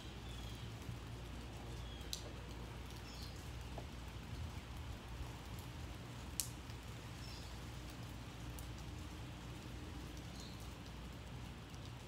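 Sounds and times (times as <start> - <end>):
light rain: 0.0 - 12.0.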